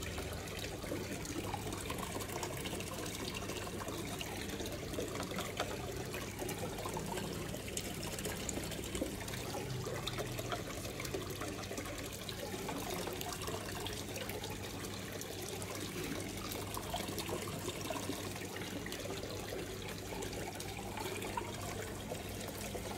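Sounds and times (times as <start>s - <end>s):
water trickling: 0.0s - 22.9s.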